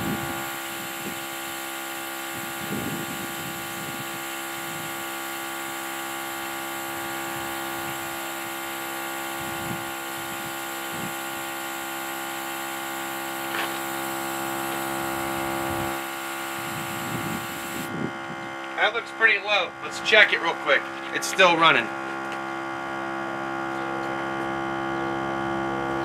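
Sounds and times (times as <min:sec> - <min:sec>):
small air compressor humming: 0:00.0 - 0:26.0.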